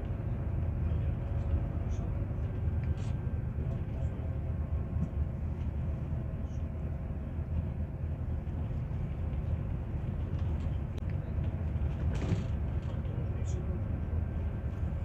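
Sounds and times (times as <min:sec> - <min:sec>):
coach engine rumble: 0:00.0 - 0:15.0.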